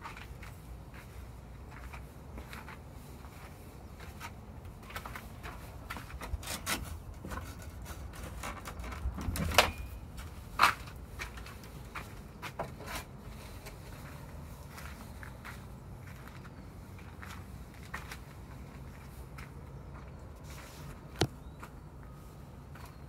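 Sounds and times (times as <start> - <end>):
footsteps crunching on gravel: 0.0 - 8.6, 10.2 - 23.0.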